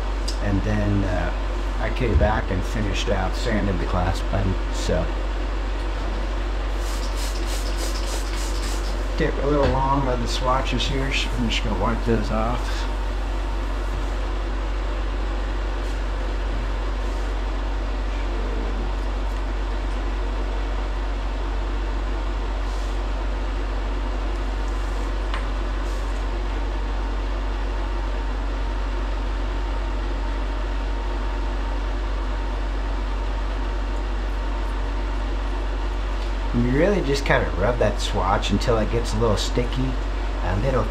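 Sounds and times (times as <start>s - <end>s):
electric fan humming: 0.0s - 40.9s.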